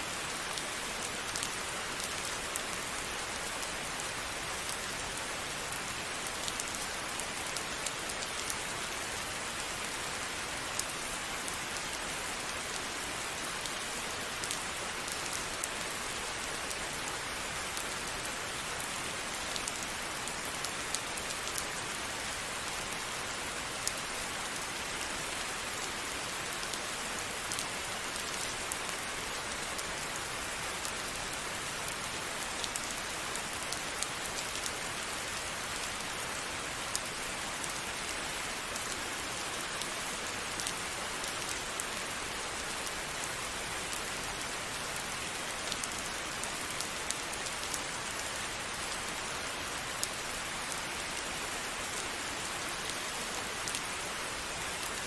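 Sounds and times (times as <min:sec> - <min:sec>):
rain pattering on a surface: 0:00.1 - 0:55.0.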